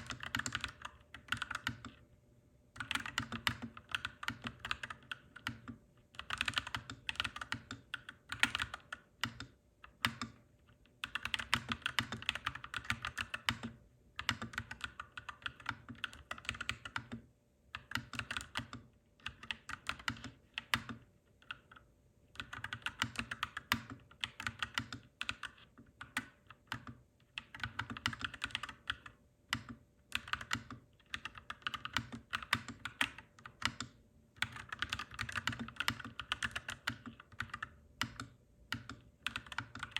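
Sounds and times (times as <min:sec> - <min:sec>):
mechanical keyboard typing: 0:00.0 - 0:02.0, 0:02.8 - 0:39.9.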